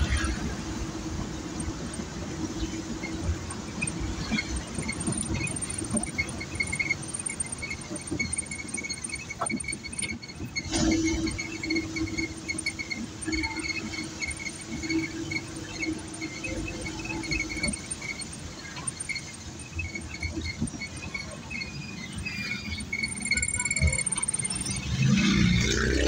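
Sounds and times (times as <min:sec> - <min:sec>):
high-pitched squeak chirps: 0:02.6 - 0:25.9.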